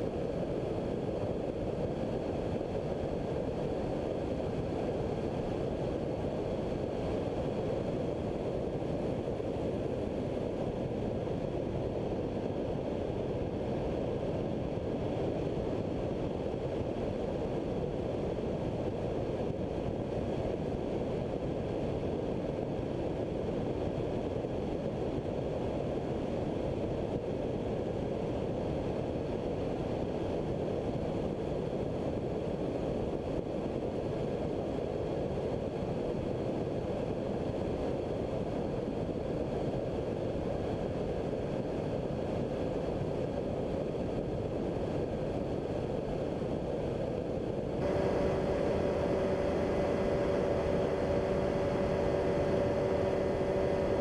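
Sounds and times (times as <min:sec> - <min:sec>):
ultralight engine and propeller drone: 0:00.0 - 0:54.0.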